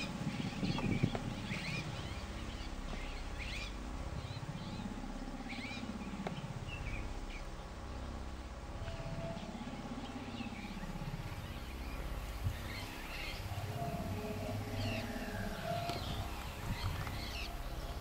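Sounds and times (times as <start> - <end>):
birds chirping: 0.0 - 18.0
low steady rumble: 0.0 - 18.0.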